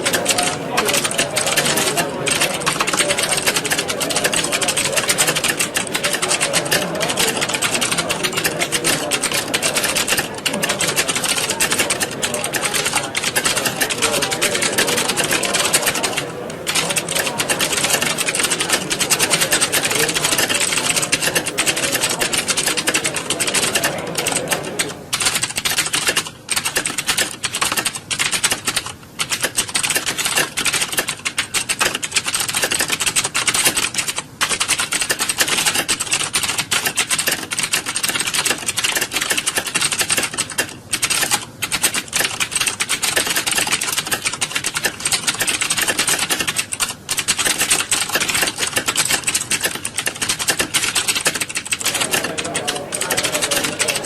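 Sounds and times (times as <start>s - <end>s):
many keyboards typing: 0.0s - 54.0s.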